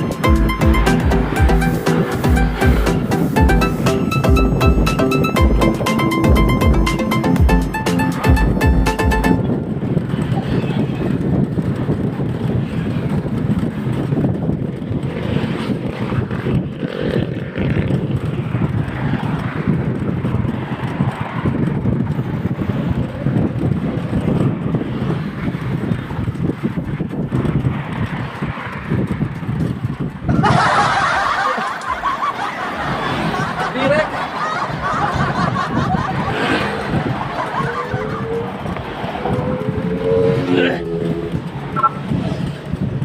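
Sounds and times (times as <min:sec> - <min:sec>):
road traffic: 0:00.0 - 0:43.0
wind buffeting microphone: 0:00.0 - 0:43.0.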